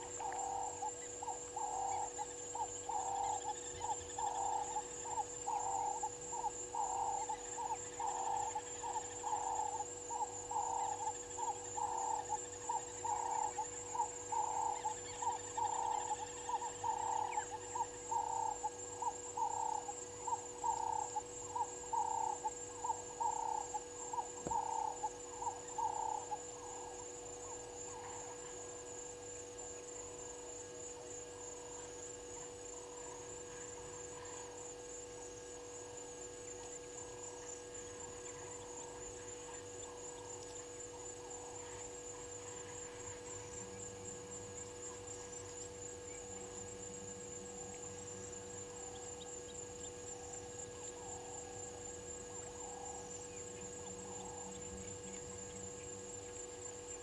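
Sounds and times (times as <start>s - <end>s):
faint high pulsing buzz: 0.0s - 57.0s.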